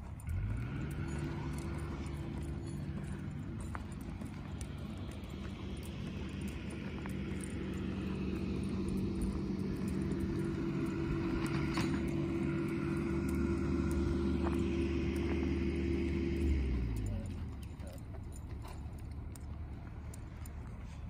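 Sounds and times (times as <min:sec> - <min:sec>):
motor engine running: 0:00.0 - 0:21.0.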